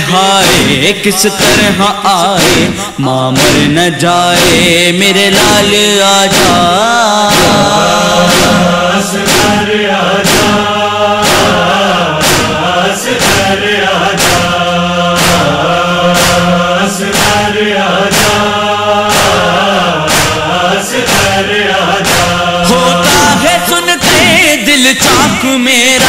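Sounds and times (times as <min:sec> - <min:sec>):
chest-beating heavy beat: 0:00.0 - 0:26.0
chorus of voices chanting: 0:00.0 - 0:26.0.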